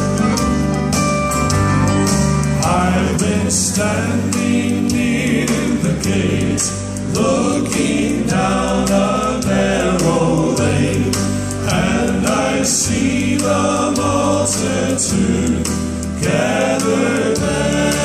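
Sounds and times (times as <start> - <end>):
instrumental backing music: 0.0 - 18.0
male vocal quartet singing: 2.6 - 18.0.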